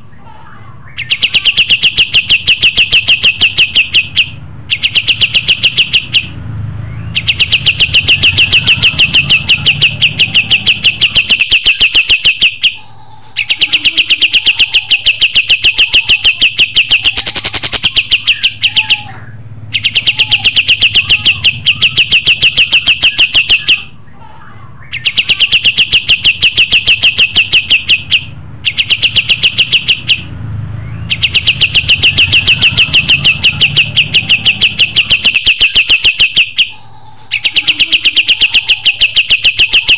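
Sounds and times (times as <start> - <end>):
songbird singing sharp high notes: 0.9 - 12.8, 13.4 - 23.9, 24.9 - 39.9.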